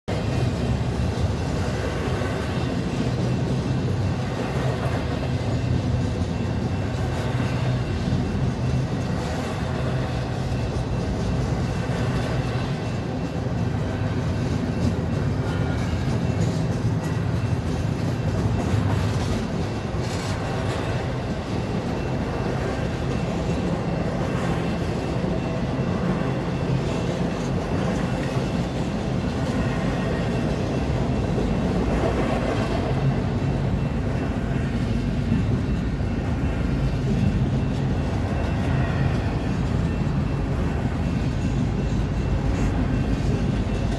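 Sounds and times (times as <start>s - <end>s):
diesel locomotive engine running: 0.1s - 43.9s.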